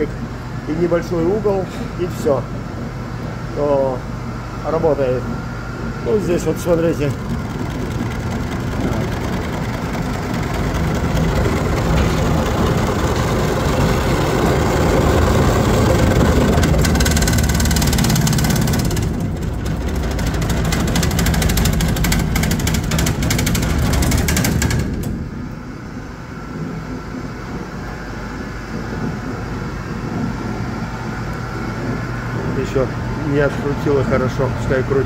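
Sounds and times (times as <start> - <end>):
low machinery hum: 0.0 - 35.0
machinery rattling: 6.0 - 35.0.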